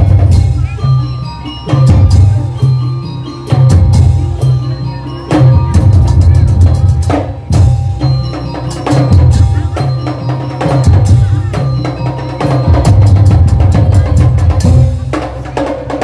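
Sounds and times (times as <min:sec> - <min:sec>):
melodic tones: 0:00.0 - 0:15.4
deep drum beats: 0:00.0 - 0:16.0.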